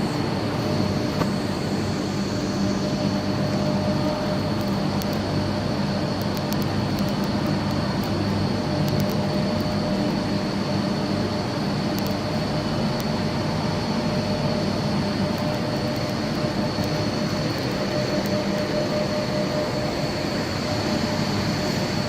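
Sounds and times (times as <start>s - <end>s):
machinery humming with high whine: 0.0s - 22.0s.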